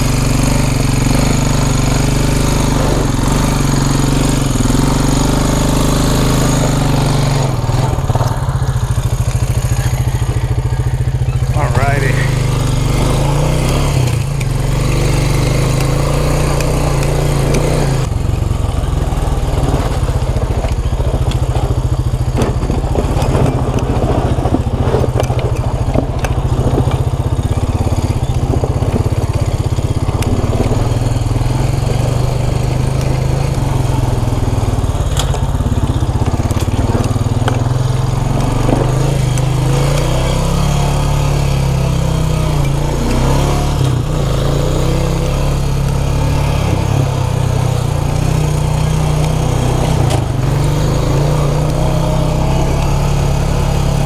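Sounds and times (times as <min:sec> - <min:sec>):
vehicle engine droning: 0:00.0 - 0:54.0
tyres crunching over loose rock: 0:00.1 - 0:54.0.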